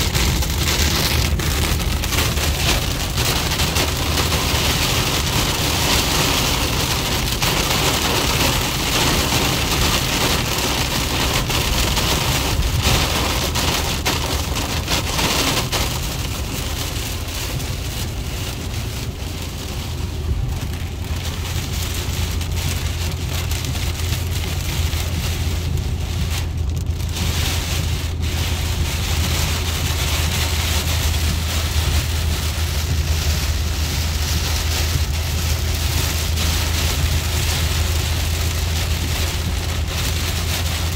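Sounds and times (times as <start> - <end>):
heavy rain on car roof: 0.0 - 40.9
low road rumble: 0.0 - 40.9.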